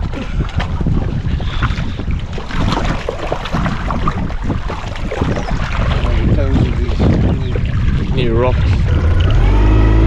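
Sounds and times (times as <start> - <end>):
water rushing past boat: 0.0 - 10.0
wind buffeting microphone: 0.0 - 10.0.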